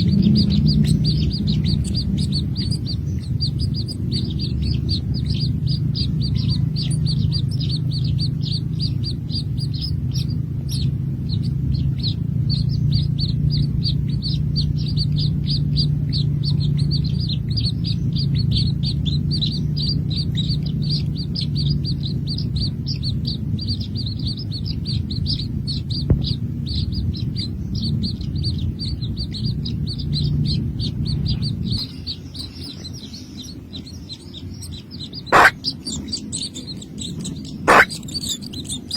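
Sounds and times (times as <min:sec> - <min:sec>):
baby birds chirping: 0:00.0 - 0:38.9
steady low rumble: 0:00.0 - 0:38.9.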